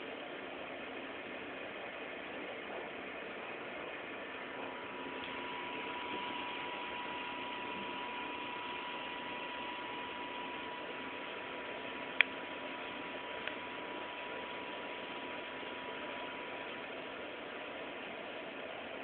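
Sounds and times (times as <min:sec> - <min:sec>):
recording hiss: 0:00.0 - 0:19.0.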